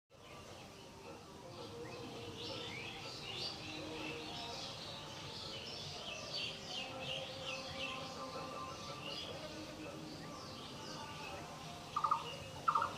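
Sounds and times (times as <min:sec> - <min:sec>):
birds chirping: 0:00.1 - 0:12.9
low steady background noise: 0:00.1 - 0:12.9.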